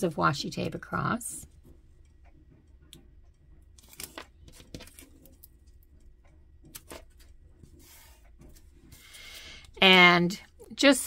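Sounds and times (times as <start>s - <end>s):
fingertips tapping on tape: 1.4s - 10.9s.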